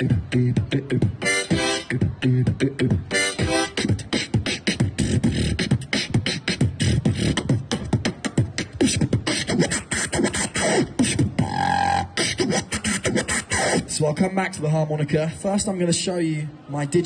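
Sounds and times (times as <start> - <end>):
person beatboxing: 0.0 - 15.4.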